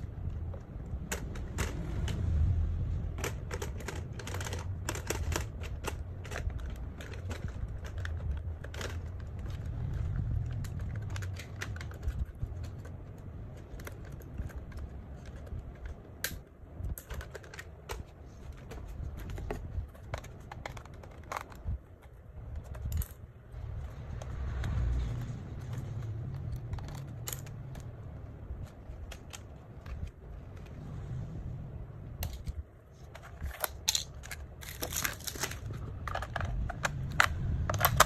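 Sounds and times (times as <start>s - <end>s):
low handling rumble: 0.0s - 16.9s, 18.1s - 38.0s.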